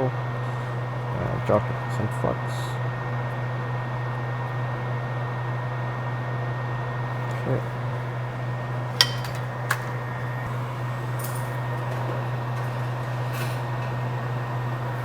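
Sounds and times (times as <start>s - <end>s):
fan hum and airflow hiss: 0.0s - 15.0s.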